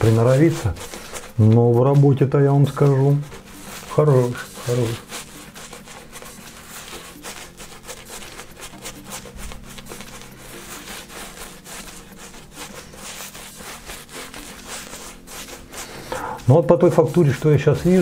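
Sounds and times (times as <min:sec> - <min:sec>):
shaving brush rubbing lather: 0:00.0 - 0:18.0.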